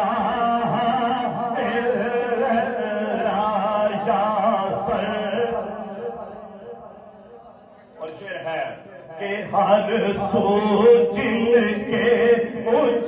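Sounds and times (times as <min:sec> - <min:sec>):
man singing chant over loudspeakers: 0:00.0 - 0:13.0.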